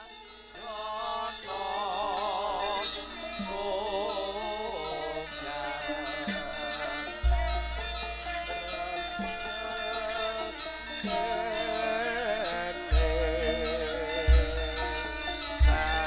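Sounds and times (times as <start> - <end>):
gamelan instruments: 0.0 - 16.0
wavering sung melody: 0.0 - 16.0.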